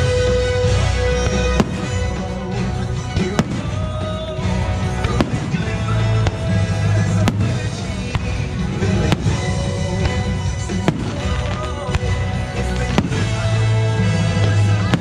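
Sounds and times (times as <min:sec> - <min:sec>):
fireworks show music: 0:00.0 - 0:15.0
fireworks bangs: 0:00.3 - 0:15.0.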